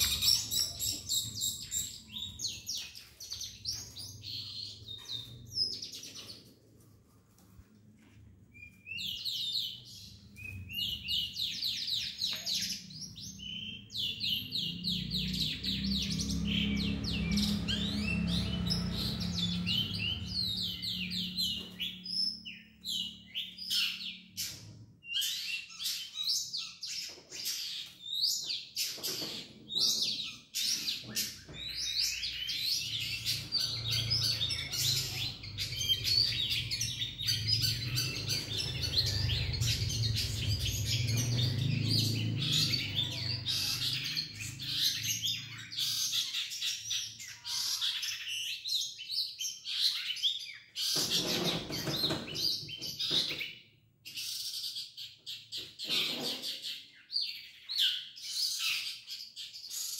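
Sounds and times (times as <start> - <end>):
caged songbirds singing and chirping: 0.0 - 59.9.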